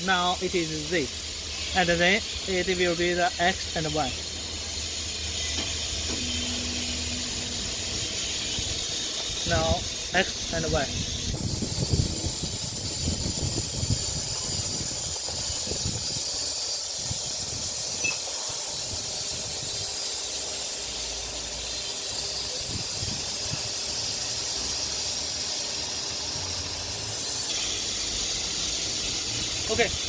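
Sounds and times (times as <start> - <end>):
drive motors humming low: 0.0 - 30.0
steady hiss: 0.0 - 30.0.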